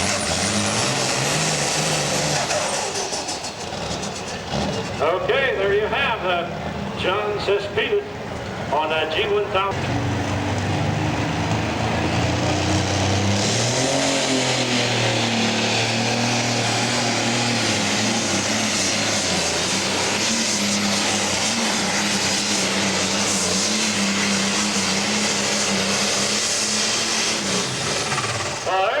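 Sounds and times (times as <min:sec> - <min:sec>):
tractor engine running flat out: 0:00.0 - 0:29.0.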